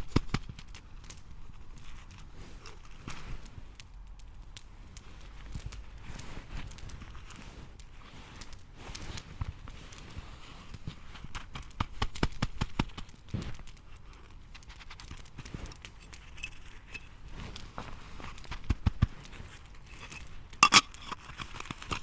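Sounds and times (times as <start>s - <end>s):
crunching in frozen snow: 0.0s - 22.0s.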